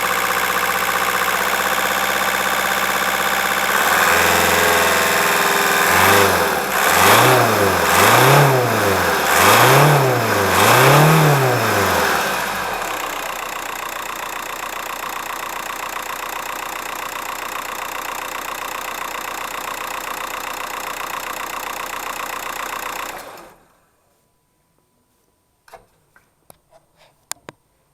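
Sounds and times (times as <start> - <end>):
diesel engine revving and idling: 0.0 - 23.6.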